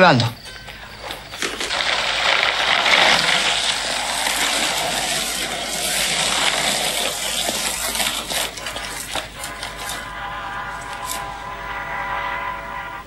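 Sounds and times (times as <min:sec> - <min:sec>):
skateboard wheels rolling on wet asphalt: 0:00.6 - 0:12.8.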